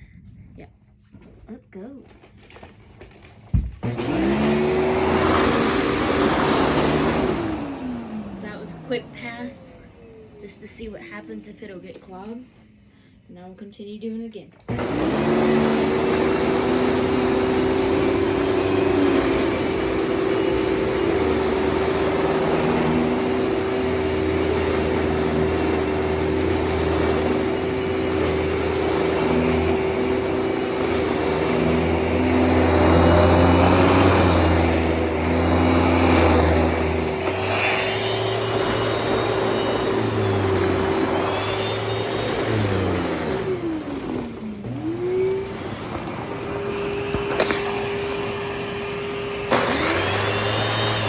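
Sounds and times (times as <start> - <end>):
vacuum cleaner motor whine: 3.5 - 12.9, 14.6 - 51.0.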